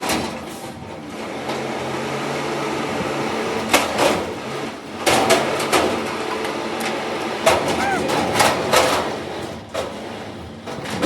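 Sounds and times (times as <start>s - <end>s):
garbage truck engine humming: 0.8s - 10.7s.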